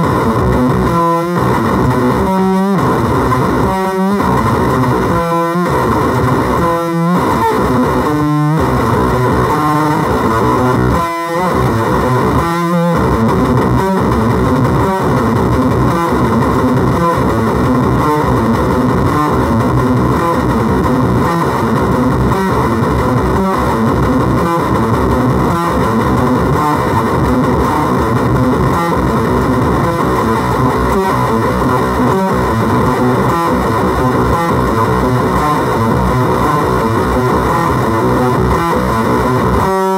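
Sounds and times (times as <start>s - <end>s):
distorted fuzz electric guitar: 0.0s - 39.9s.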